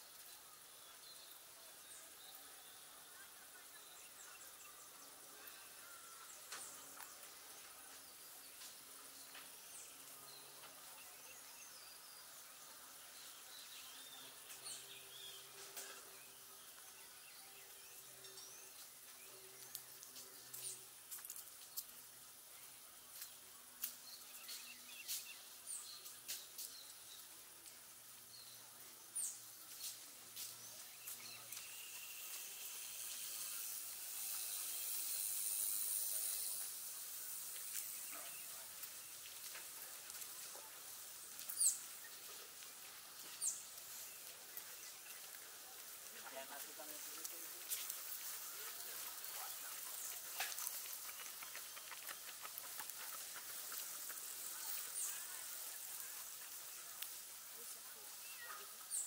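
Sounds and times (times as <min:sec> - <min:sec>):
birds chirping: 0:00.0 - 0:59.0
insect hiss: 0:00.0 - 0:59.0.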